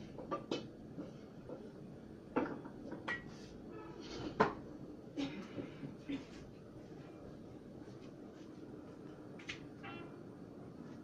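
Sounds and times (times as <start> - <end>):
low steady background hum: 0.0 - 11.0.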